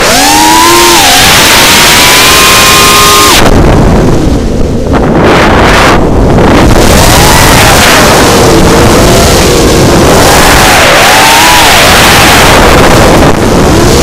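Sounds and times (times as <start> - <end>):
drone motors whining: 0.0 - 14.0
wind noise on microphone: 0.0 - 14.0.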